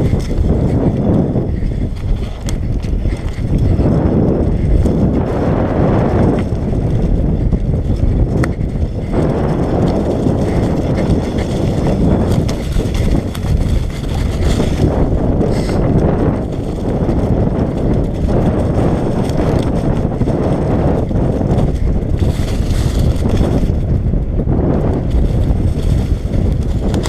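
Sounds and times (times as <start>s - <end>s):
bicycle rattling clicks and knocks: 0.0s - 27.0s
bicycle tyre and drivetrain rumble: 0.0s - 27.0s
wind buffeting on microphone: 0.0s - 27.0s.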